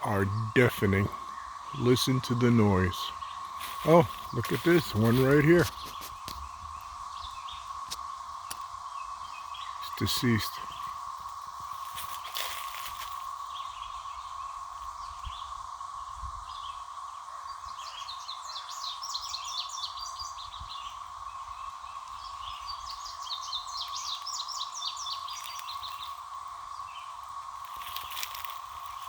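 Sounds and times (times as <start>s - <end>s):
cicadas droning: 0.0s - 29.0s.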